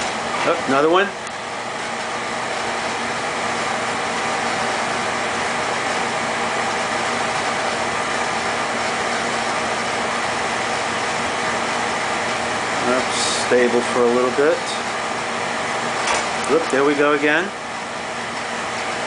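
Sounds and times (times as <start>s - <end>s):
oil burner flame and fan rushing: 0.0s - 19.0s.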